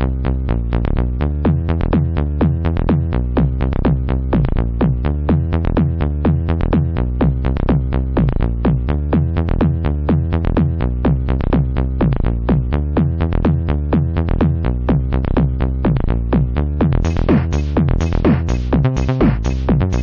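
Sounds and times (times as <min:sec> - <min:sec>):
electronic dance music: 0:00.5 - 0:20.0.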